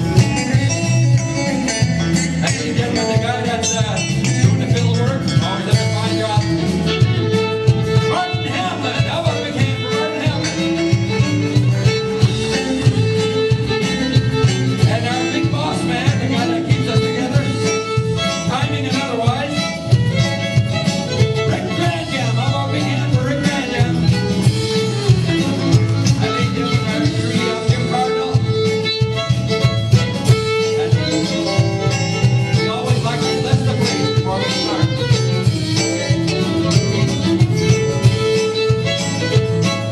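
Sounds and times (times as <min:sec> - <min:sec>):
bass guitar: 0:00.0 - 0:39.9
fiddle melody: 0:00.0 - 0:39.9
live band playing instrumental: 0:00.0 - 0:39.9
steady drum beat: 0:00.0 - 0:39.9.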